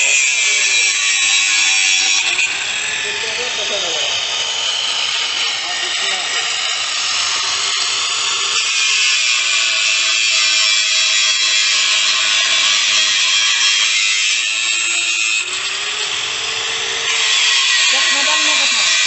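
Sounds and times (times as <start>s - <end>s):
angle grinder cutting sheet steel: 0.0s - 19.0s.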